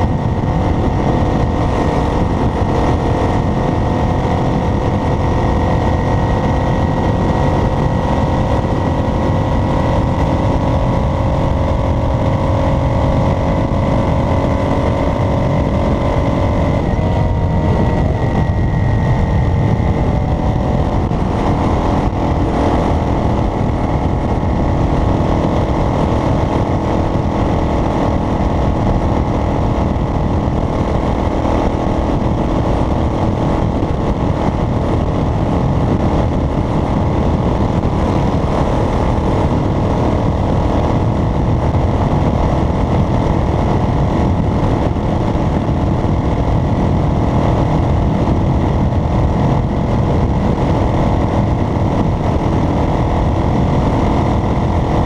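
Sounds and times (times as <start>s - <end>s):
road noise: 0.0s - 55.0s
vehicle engine rumble: 0.0s - 55.0s.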